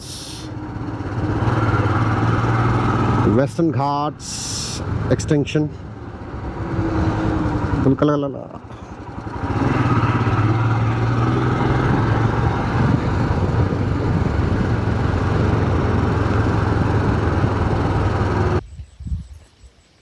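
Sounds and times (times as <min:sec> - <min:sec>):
motorcycle engine running: 0:00.0 - 0:18.6
road and wind noise: 0:00.0 - 0:19.6.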